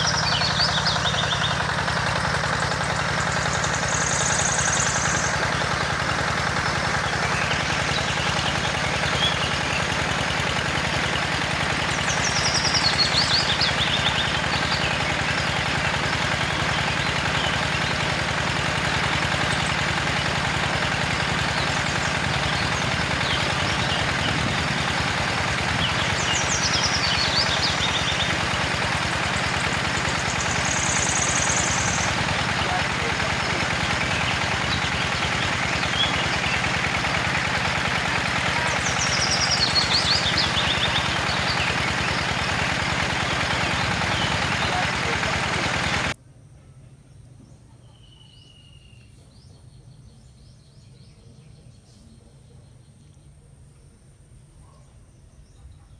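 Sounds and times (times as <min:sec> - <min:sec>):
small water pump engine running: 0:00.0 - 0:46.2.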